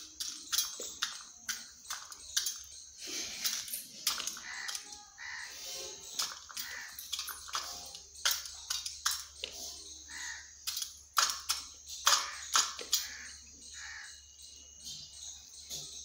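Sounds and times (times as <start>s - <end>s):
beak pecking steel bowl: 0.0s - 14.0s.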